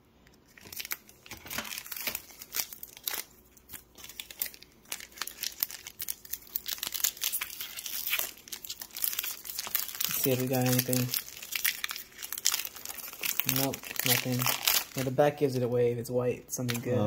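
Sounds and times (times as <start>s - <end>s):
foil wrappers crinkling and tearing: 0.2s - 15.6s.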